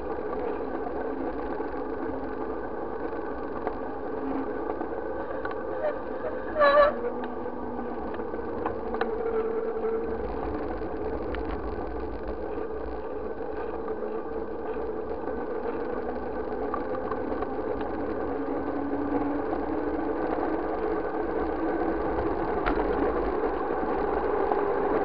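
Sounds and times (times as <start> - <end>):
motorcycle engine running: 0.0 - 25.0
road and wind rumble: 0.0 - 25.0.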